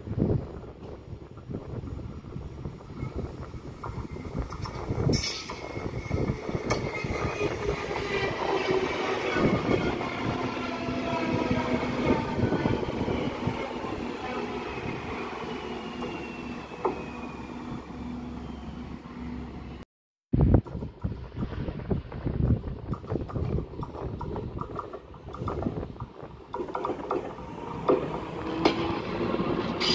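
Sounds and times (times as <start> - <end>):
train running on rails: 0.0 - 19.8, 20.5 - 29.9.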